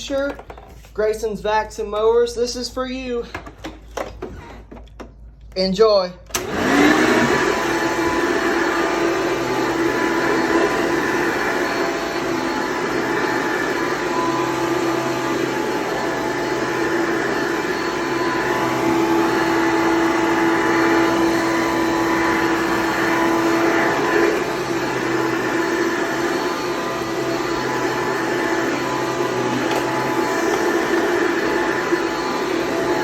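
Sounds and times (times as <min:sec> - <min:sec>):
vacuum cleaner running: 0:06.3 - 0:33.0.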